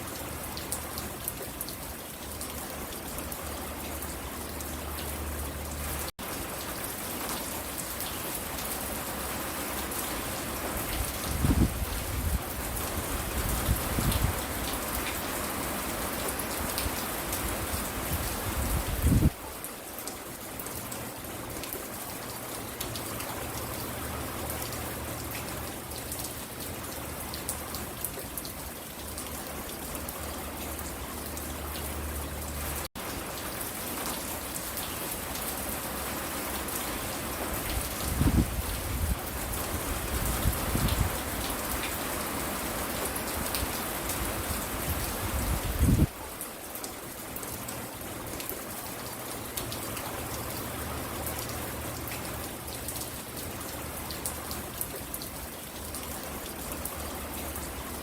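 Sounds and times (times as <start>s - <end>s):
rain pattering on a porch: 0.0s - 58.0s.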